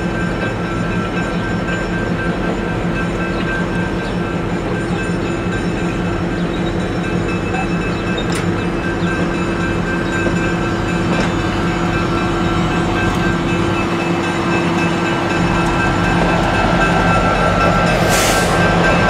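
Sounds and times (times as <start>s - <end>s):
train cars rolling rumble: 0.0s - 19.0s.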